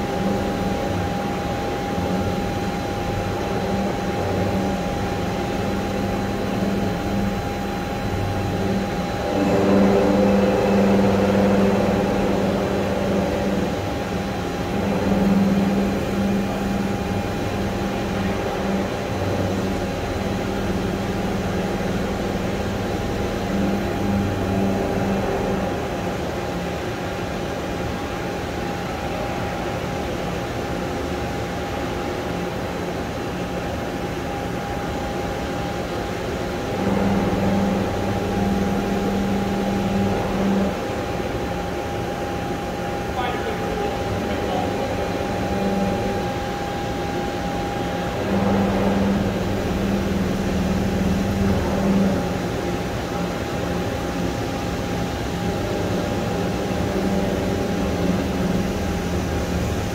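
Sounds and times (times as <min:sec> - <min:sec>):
whining machine tones: 0:00.0 - 0:26.1, 0:36.4 - 0:42.8, 0:43.4 - 0:59.9
boring mill humming: 0:00.0 - 0:59.9.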